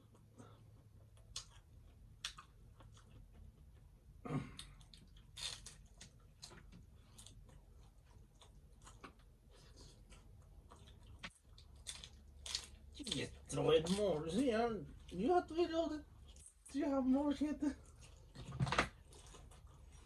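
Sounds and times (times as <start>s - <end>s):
crunching taco: 0.0s - 15.4s, 17.8s - 20.0s.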